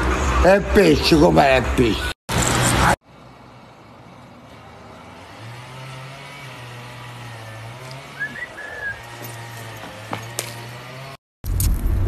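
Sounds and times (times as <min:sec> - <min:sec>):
faint street ambience: 0:00.0 - 0:11.2.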